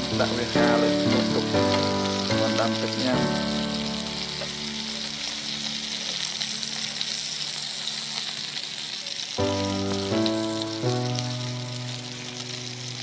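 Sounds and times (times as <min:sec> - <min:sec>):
background music of held notes: 0:00.0 - 0:07.0, 0:09.4 - 0:13.0
chicken frying in oil: 0:00.0 - 0:13.0.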